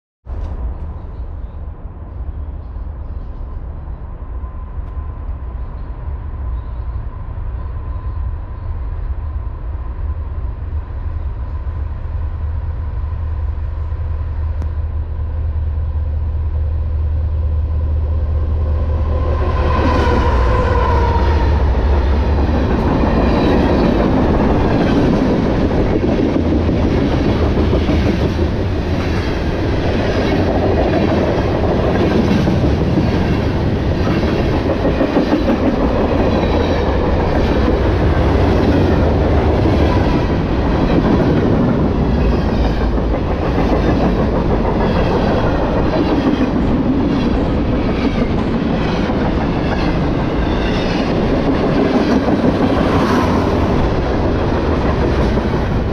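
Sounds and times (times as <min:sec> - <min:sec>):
diesel locomotive engine rumble: 0:00.3 - 0:55.9
train passing rush: 0:00.3 - 0:55.9.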